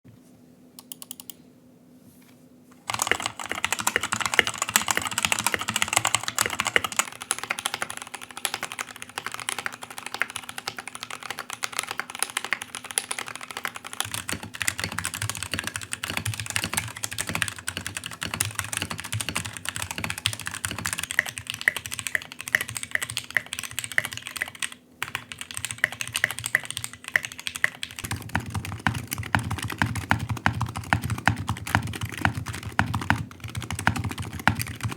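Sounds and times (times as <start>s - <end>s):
mechanical keyboard typing: 0.8s - 1.4s, 2.8s - 34.9s.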